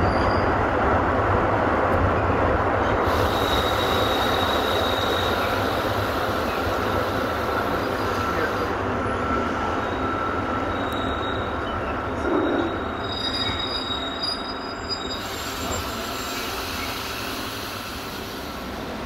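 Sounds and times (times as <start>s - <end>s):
train running gear rumble: 0.0s - 19.0s
high wheel squeal: 3.0s - 18.6s.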